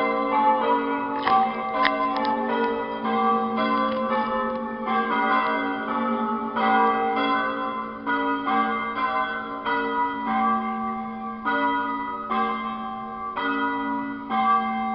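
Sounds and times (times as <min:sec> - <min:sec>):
church bells ringing: 0:00.0 - 0:14.9.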